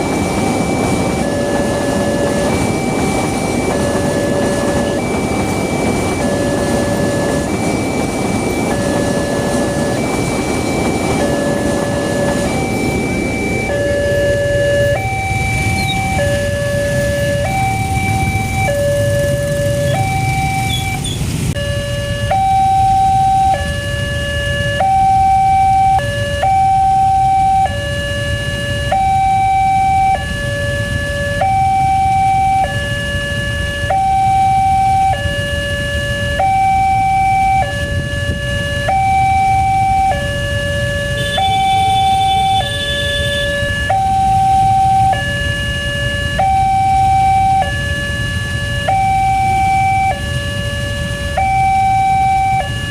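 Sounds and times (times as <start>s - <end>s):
two-tone level crossing alarm: 0.0s - 52.9s.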